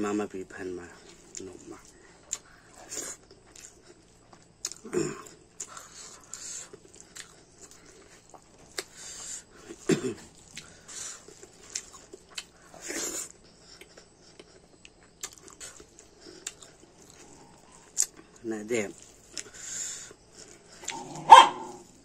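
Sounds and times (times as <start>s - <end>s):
chewing and lip smacking: 1.0s - 18.4s, 19.0s - 21.1s.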